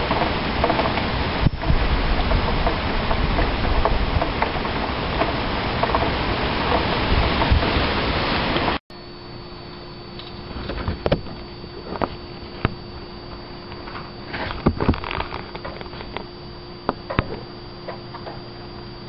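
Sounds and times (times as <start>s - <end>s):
faint hum and hiss: 0.0s - 19.0s.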